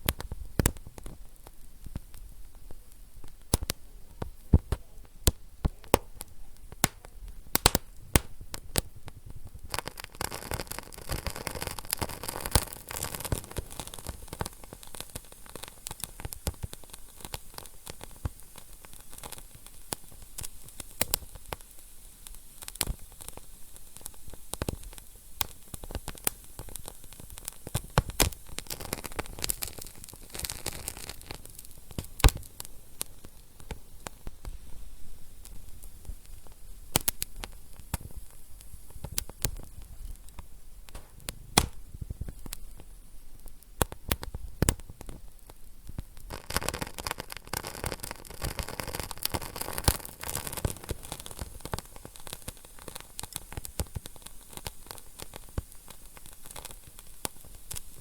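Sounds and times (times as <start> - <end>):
soft hiss of fire: 0.0 - 58.0
wood fire crackling and popping: 0.0 - 58.0.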